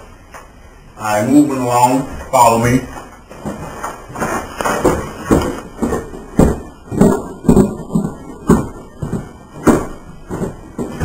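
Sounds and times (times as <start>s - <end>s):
footsteps thudding: 2.0s - 11.0s.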